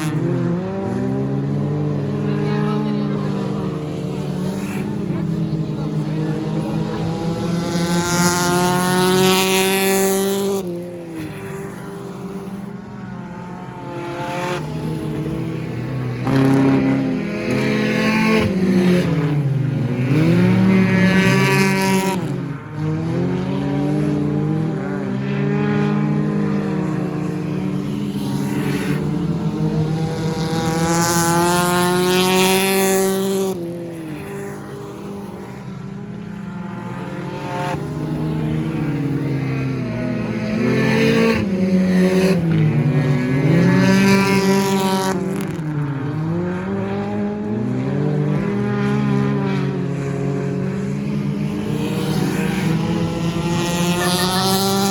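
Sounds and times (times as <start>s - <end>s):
race cars passing by: 0.0s - 54.9s.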